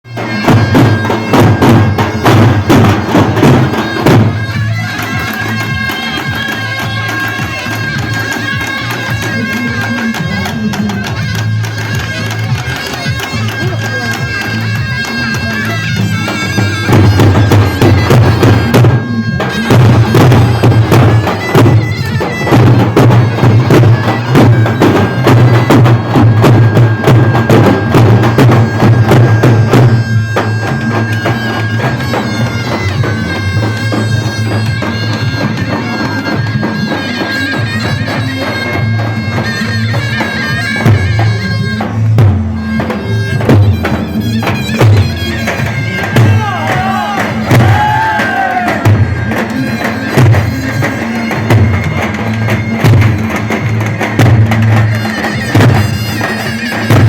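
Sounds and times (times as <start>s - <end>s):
loud bass drum beat: 0.1s - 36.7s, 40.8s - 57.0s
shrill reed pipe melody: 0.1s - 57.0s.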